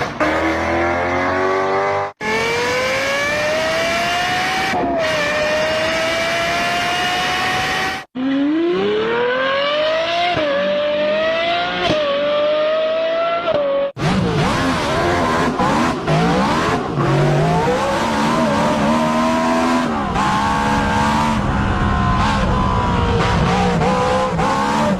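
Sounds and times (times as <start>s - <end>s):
race car engines revving: 0.0s - 24.9s.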